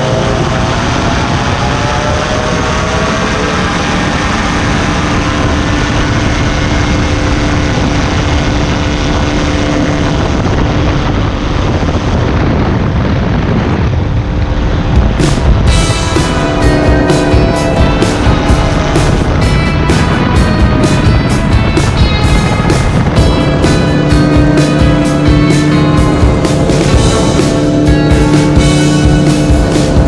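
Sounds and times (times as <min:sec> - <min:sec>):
aircraft engine and propeller: 0:00.0 - 0:30.0.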